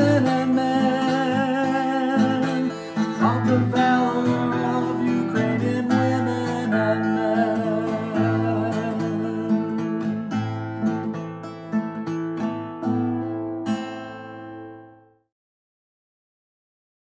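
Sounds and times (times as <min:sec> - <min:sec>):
acoustic guitar instrumental music: 0:00.0 - 0:15.3.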